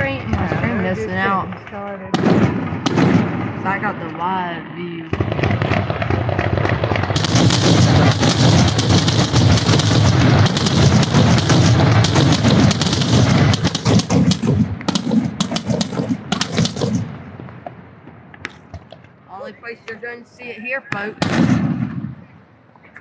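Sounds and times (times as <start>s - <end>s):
fireworks bangs and crackling: 0.0s - 19.1s, 20.9s - 22.4s.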